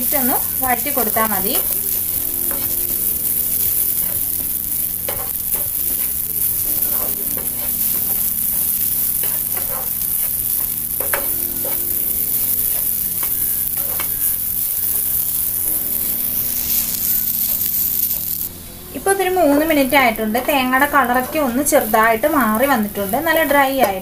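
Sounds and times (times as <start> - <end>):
coconut sizzling in a pan: 0.0 - 24.0
spatula scraping a pan: 0.1 - 17.9, 19.0 - 24.0.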